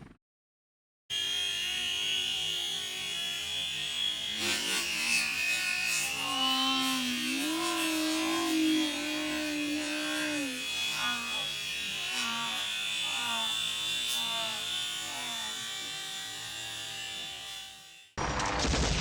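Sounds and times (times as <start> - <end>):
rc helicopter motor whine: 1.1 - 18.4.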